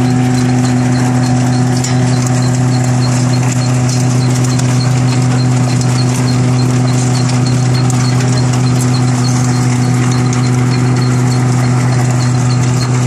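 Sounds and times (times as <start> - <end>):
machine mechanical hum: 0.0 - 13.0
regular light ticking: 0.0 - 13.0.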